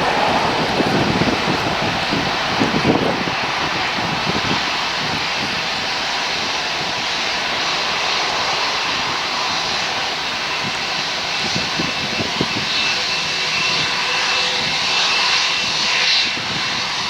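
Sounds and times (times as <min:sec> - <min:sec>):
jet engines rushing with whine: 0:00.0 - 0:17.0.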